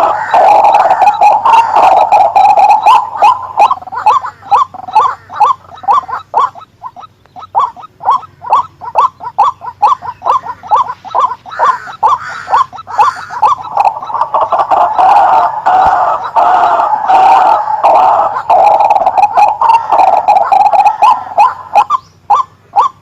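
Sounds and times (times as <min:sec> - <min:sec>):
waterhen calling: 0:00.0 - 0:23.0.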